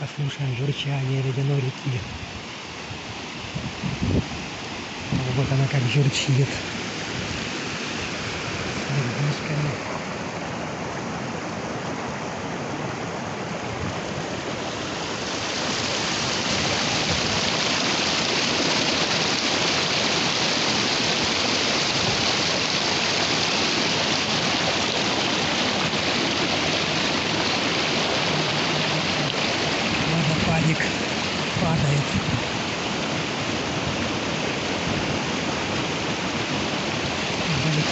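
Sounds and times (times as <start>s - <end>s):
river rushing over small waterfall: 0.0s - 37.9s.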